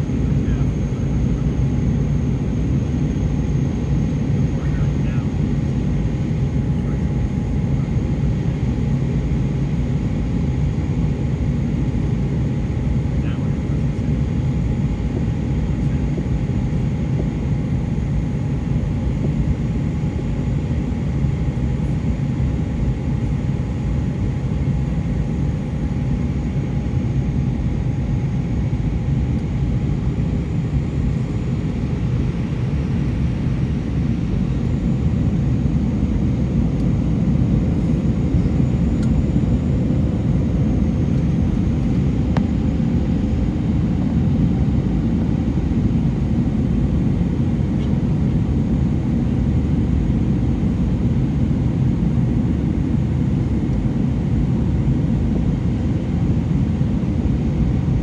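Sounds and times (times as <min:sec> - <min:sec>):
airplane cabin roar: 0:00.0 - 0:58.0
faint engine whine: 0:00.0 - 0:58.0.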